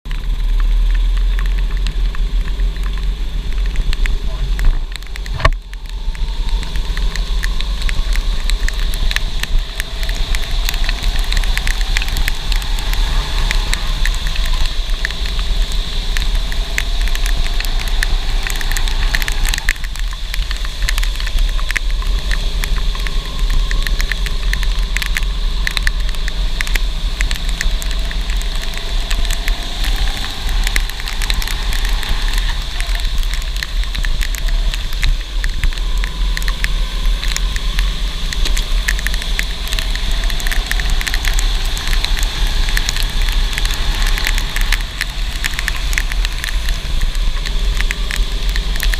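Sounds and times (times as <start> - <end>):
rain crackle: 0.0 - 48.9
wind rumble on microphone: 0.1 - 48.9.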